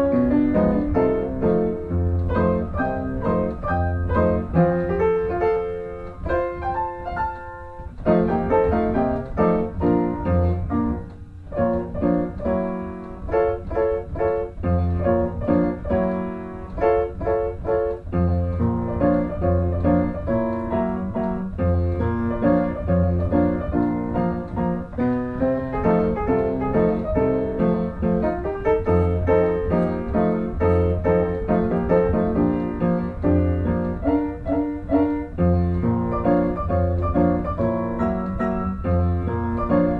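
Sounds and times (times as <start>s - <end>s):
piano background music: 0.0s - 39.9s.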